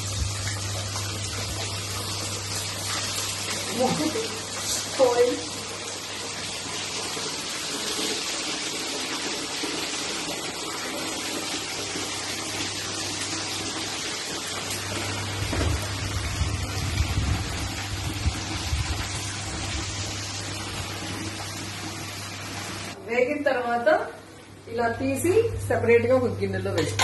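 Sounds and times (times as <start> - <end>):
chicken deep-frying in hot oil: 0.0 - 23.0.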